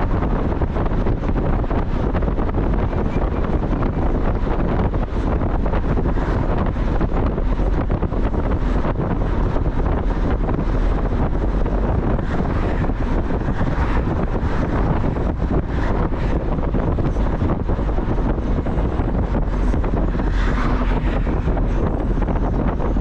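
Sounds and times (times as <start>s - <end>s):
car road and engine noise: 0.0s - 23.0s
wind buffeting microphone: 0.0s - 23.0s.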